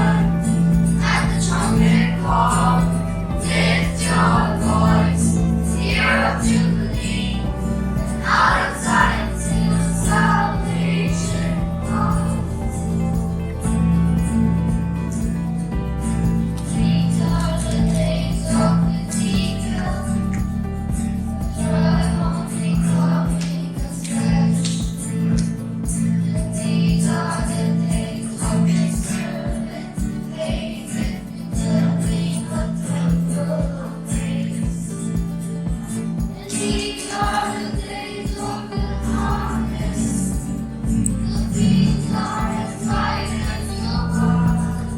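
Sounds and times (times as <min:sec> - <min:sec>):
children's choir singing: 0:00.0 - 0:44.9
instrumental accompaniment: 0:00.0 - 0:44.9.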